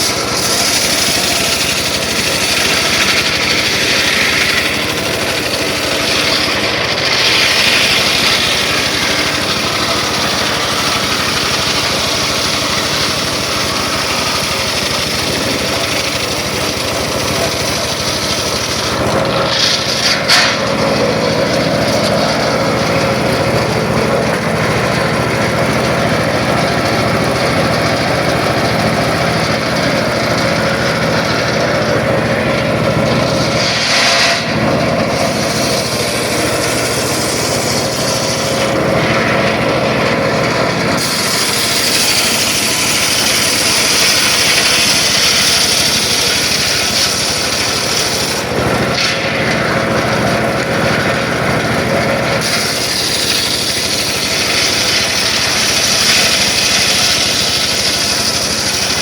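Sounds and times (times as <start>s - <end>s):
circular saw cutting wood: 0.0s - 59.0s.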